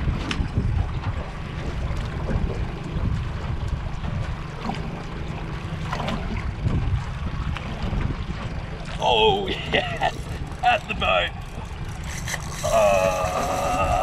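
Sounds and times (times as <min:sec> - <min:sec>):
wind buffeting the microphone: 0:00.0 - 0:14.0.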